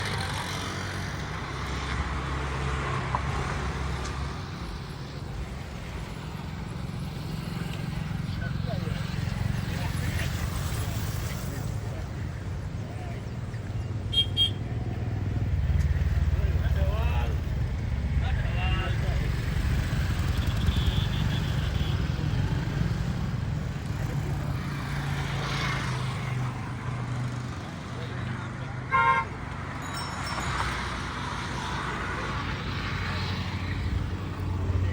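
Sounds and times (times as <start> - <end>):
road traffic rumble and hiss: 0.0 - 34.9.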